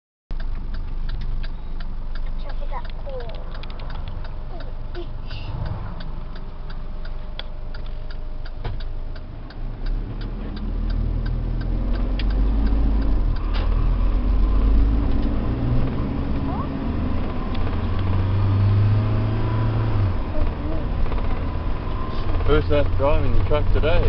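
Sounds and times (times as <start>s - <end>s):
truck engine and road noise: 0.3s - 24.0s.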